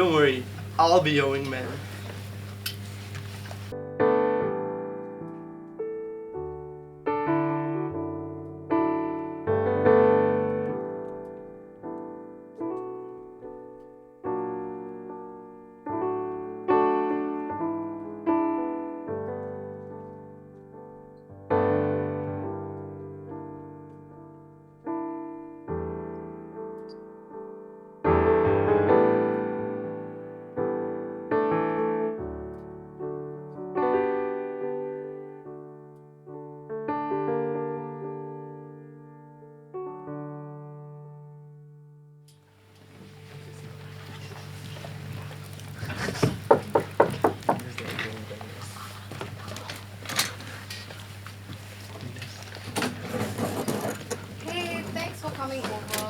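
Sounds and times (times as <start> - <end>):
slow solo piano chords: 0.0 - 50.1.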